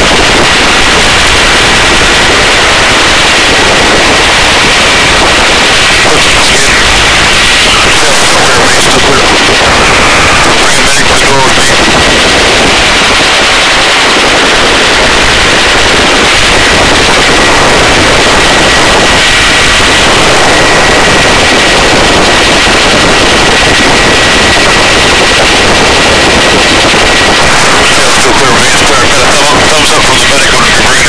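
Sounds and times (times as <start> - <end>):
helicopter rotor chop: 0.0 - 31.0
high engine whine: 0.0 - 31.0.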